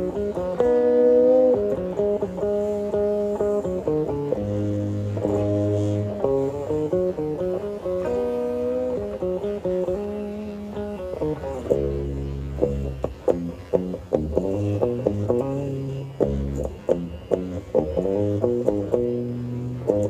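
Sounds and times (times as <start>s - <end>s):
bass line: 0.0s - 20.0s
guitar-led instrumental music: 0.0s - 20.0s
plucked guitar notes: 0.0s - 20.0s.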